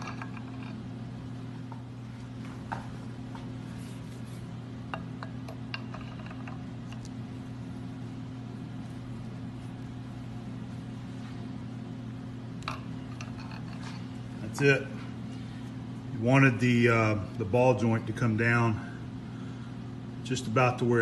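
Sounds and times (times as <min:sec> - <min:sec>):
low hum of shop machinery: 0:00.0 - 0:21.0.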